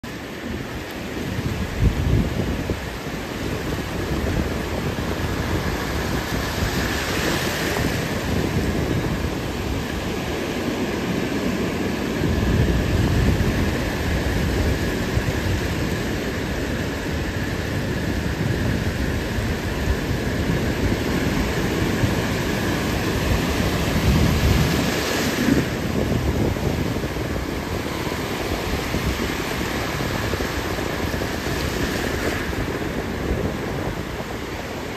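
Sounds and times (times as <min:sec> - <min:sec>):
ocean surf breaking: 0:00.0 - 0:34.9.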